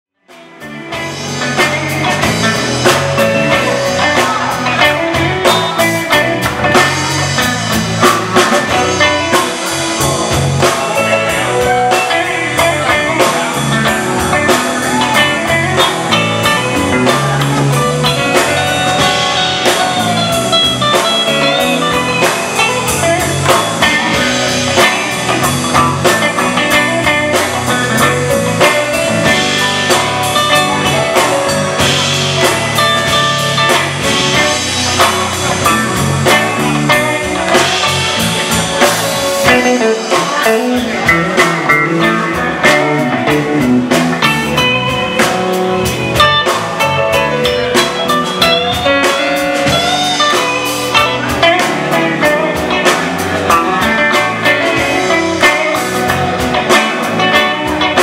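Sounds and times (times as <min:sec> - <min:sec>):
blues band playing: 0:00.2 - 0:58.0
electric guitar: 0:00.2 - 0:58.0
drum kit beat: 0:00.3 - 0:58.0
electric bass: 0:00.3 - 0:58.0.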